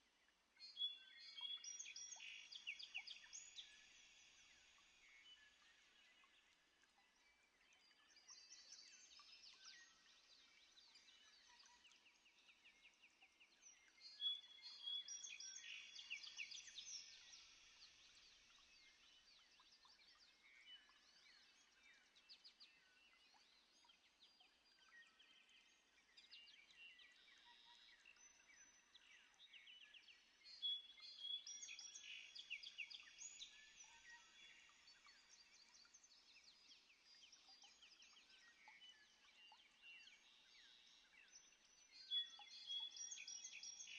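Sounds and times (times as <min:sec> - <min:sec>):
small birds chirping and trilling: 0:00.2 - 0:43.9.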